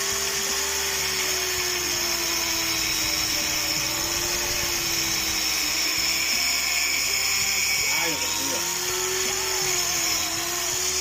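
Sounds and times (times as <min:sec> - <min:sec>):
power tool grinding foam: 0:00.0 - 0:11.0.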